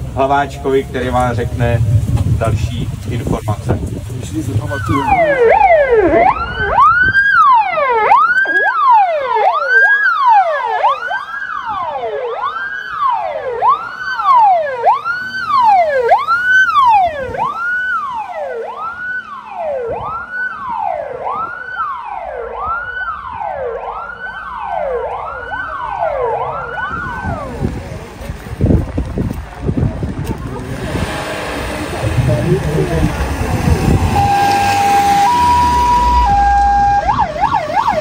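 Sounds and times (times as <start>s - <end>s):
police siren wailing: 3.8s - 28.2s, 30.4s - 38.0s.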